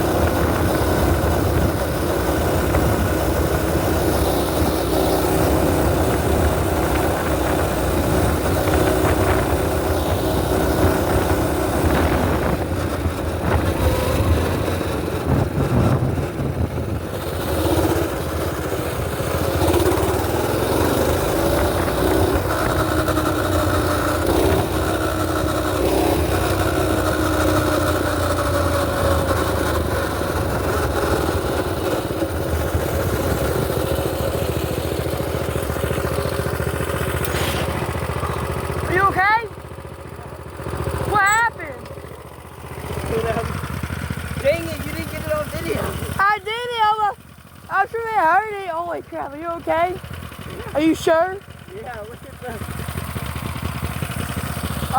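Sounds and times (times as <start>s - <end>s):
mini bike engine running: 0.0s - 54.9s.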